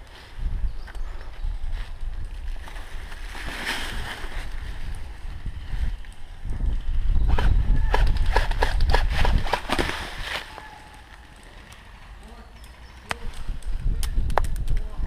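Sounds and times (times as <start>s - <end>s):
wind rumbling on microphone: 0.0s - 11.4s, 12.0s - 15.0s.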